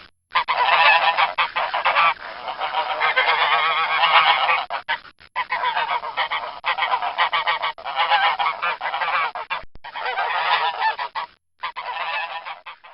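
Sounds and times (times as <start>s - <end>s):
geese honking: 0.3s - 12.9s.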